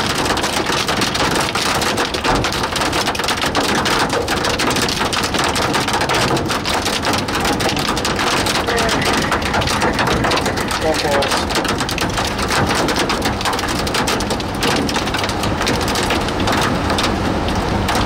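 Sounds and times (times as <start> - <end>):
heavy rain drumming on vehicle roof: 0.0 - 18.0.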